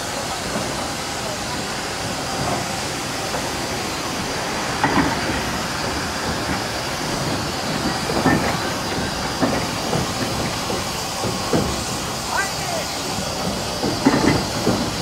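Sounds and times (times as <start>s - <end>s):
steam hissing: 0.0s - 15.0s
locomotive running gear clanks and squeaks: 0.1s - 15.0s.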